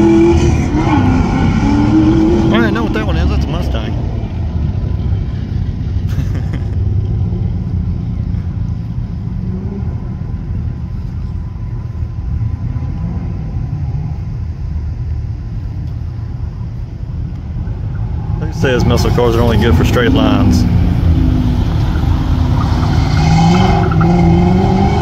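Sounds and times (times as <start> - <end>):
car engine rumbling: 0.0 - 25.0.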